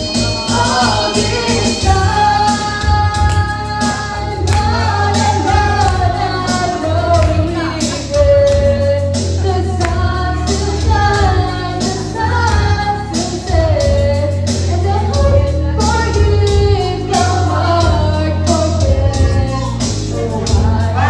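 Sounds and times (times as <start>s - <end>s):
backing track with bass and beat: 0.0s - 21.0s
woman singing into a microphone: 0.0s - 21.0s.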